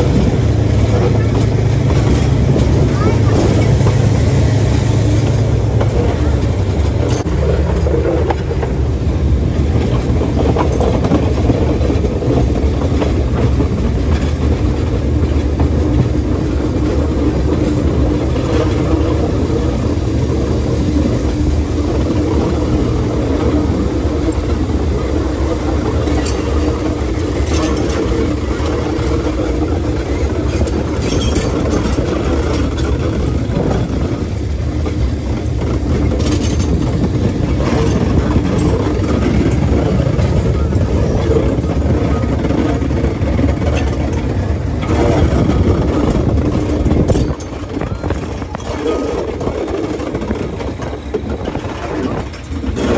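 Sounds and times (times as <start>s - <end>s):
locomotive engine drone: 0.0s - 52.9s
wheel and rail noise: 0.0s - 52.9s
wind: 0.0s - 52.9s.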